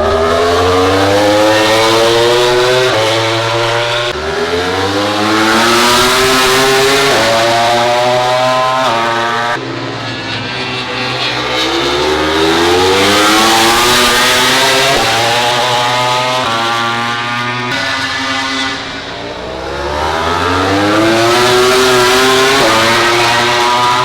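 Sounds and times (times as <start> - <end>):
race motorcycles accelerating: 0.0 - 24.0.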